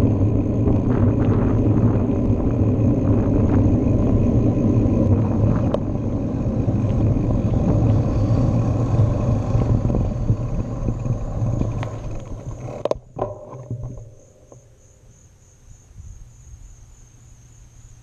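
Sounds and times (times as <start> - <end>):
crickets chirring: 0.0 - 18.0
wind and road rumble: 0.0 - 18.0.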